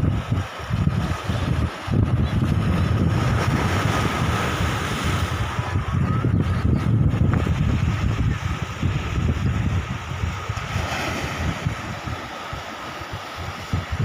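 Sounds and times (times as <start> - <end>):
waves breaking over rocks: 0.0 - 14.0
wind buffeting microphone: 0.0 - 14.0.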